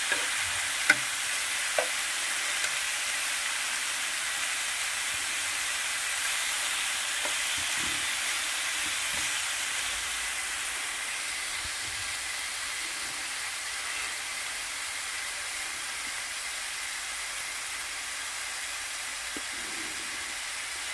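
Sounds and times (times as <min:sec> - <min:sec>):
meat sizzling in frying pan: 0:00.0 - 0:20.9.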